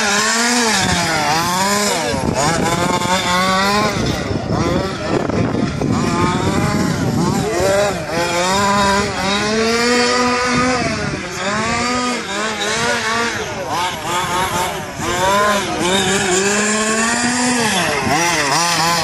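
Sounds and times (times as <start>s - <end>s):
rc truck engine revving: 0.0s - 19.0s.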